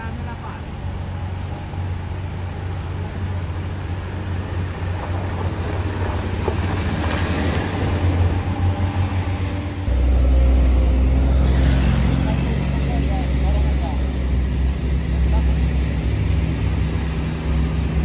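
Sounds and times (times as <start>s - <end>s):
car passing: 0.0s - 18.0s
pickup engine droning: 0.0s - 18.0s.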